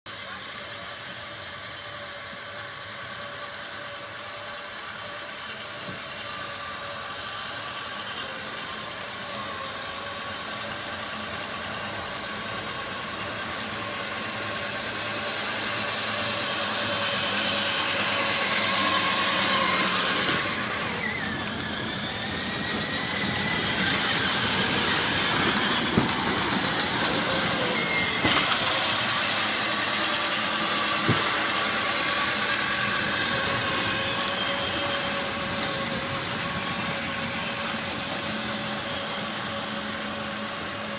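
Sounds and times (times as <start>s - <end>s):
vehicle engine running: 0.1s - 40.9s
hiss: 0.3s - 40.9s.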